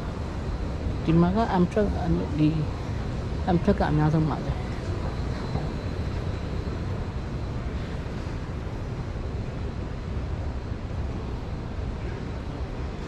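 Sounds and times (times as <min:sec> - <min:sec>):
train station ambient rumble: 0:00.0 - 0:13.0.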